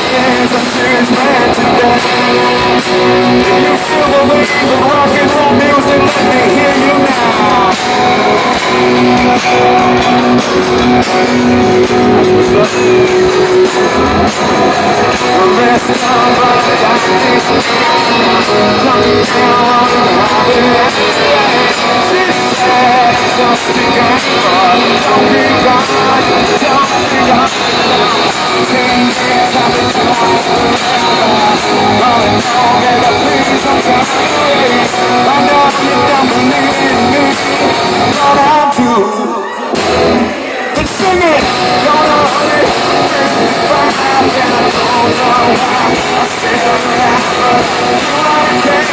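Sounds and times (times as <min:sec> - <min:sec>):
distorted electric guitars: 0:00.0 - 0:48.9
drums: 0:00.0 - 0:48.9
person singing: 0:00.0 - 0:48.9.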